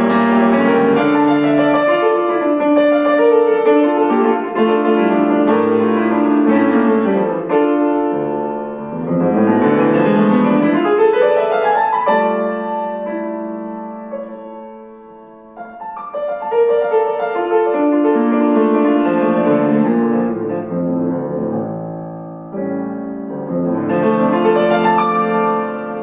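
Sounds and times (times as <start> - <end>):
classical piano music: 0.0 - 26.0.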